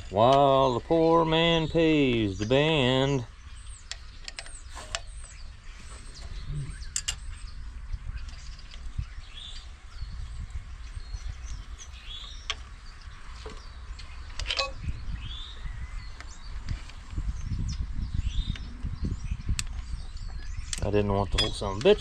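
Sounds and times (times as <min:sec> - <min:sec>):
bird chirps: 0:00.0 - 0:22.0.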